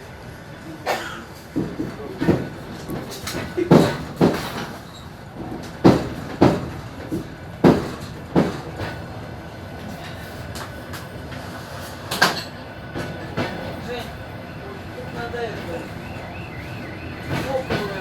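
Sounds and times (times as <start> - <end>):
train rolling noise: 0.0 - 18.0
train wheels clicking over rail joints: 0.8 - 18.0.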